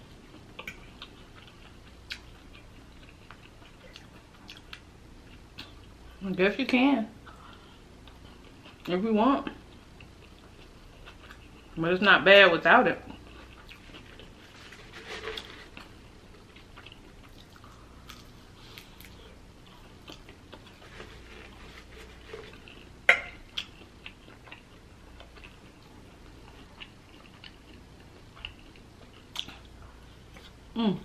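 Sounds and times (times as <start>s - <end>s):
chewing and wet mouth sounds: 0.2s - 6.2s, 7.3s - 11.8s, 13.1s - 14.5s, 15.2s - 30.6s.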